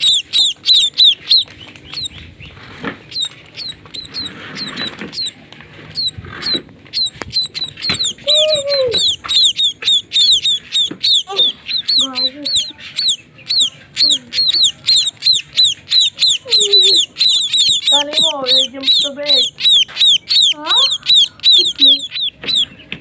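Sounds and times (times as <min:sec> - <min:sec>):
baby bird chirping: 0:00.0 - 0:23.0.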